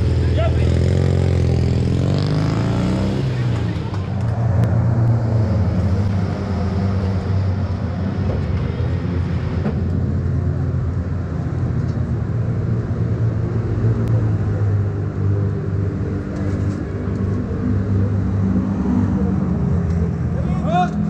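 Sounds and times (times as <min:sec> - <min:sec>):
car engines humming: 0:00.0 - 0:21.0.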